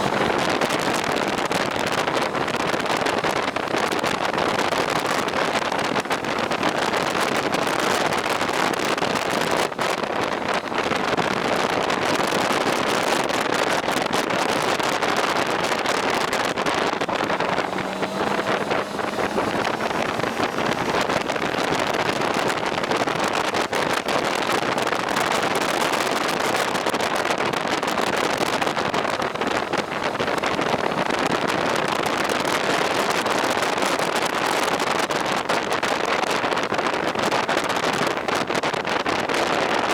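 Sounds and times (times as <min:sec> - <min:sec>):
motorcycle road noise: 0:00.0 - 0:39.9
wind rush on microphone: 0:00.0 - 0:39.9.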